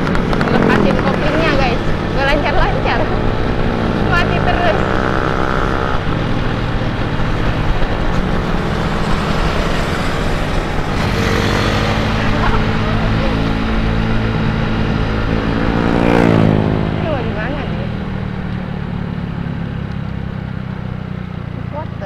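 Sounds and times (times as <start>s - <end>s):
scooter engine running: 0.0s - 22.0s
wind and road noise: 0.0s - 22.0s.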